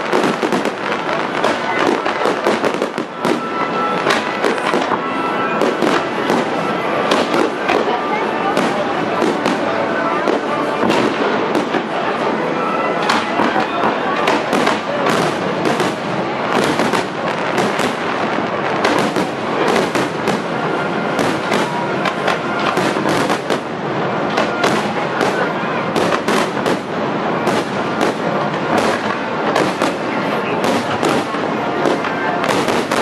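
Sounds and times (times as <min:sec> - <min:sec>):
crackling fireworks stars: 0:00.0 - 0:33.0
fireworks exploding: 0:00.0 - 0:33.0.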